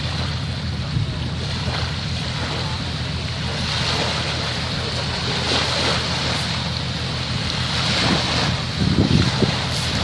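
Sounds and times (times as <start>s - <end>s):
low rumble: 0.0s - 10.0s
water: 0.0s - 10.0s
wind: 0.0s - 10.0s.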